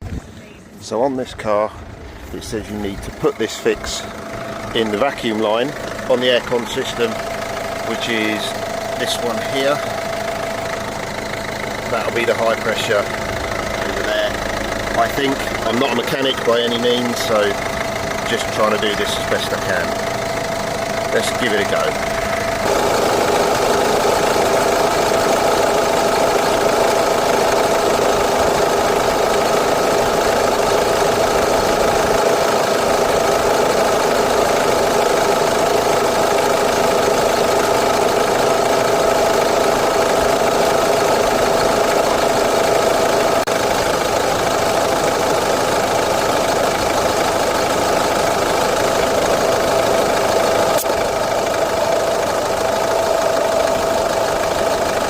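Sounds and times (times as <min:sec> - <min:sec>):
diesel engine idling: 0:00.0 - 0:55.0
steady whine: 0:01.7 - 0:55.0.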